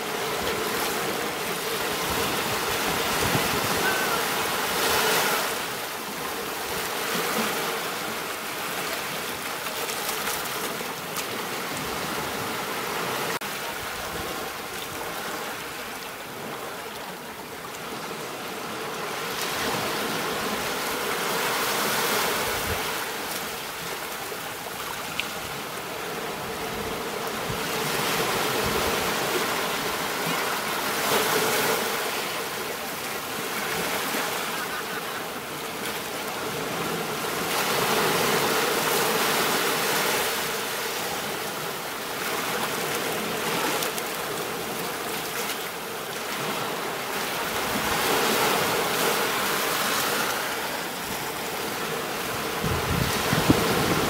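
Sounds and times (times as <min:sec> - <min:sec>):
ocean waves on beach: 0:00.0 - 0:54.0.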